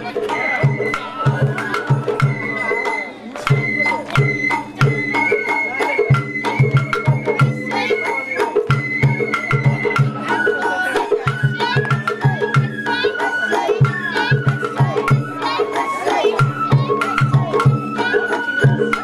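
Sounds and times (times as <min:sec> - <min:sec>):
high bamboo flute melody: 0:00.0 - 0:19.0
sharp clicking percussion: 0:00.0 - 0:19.0
steady drumbeats: 0:00.0 - 0:19.0.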